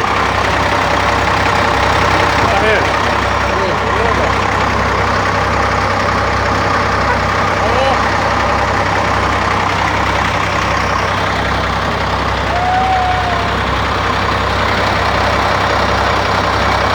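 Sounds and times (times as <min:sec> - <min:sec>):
diesel bus engine idling: 0:00.0 - 0:16.9.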